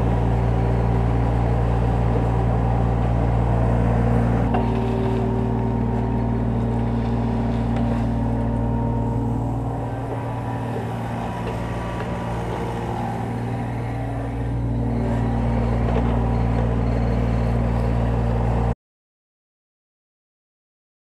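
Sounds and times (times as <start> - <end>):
excavator diesel engine running: 0.0 - 18.8.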